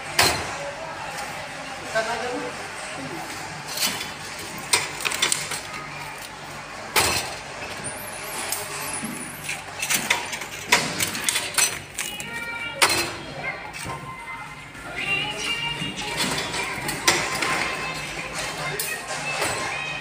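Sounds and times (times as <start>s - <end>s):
cling-film wrapping machine: 2.8s - 20.0s
metal shopping trolleys clattering: 3.5s - 20.0s.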